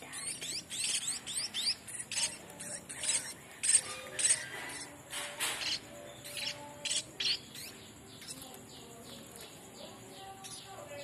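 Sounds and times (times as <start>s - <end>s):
young birds chirping: 0.0s - 11.0s.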